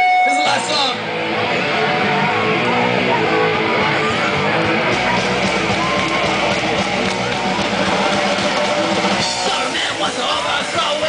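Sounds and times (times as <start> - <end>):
electric guitar intro: 0.0 - 11.0
live punk rock band: 0.0 - 11.0.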